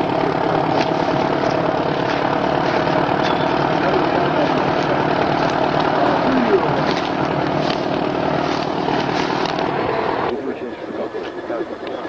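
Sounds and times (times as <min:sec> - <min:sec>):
heavy vehicle engine at high revs: 0:00.0 - 0:12.0.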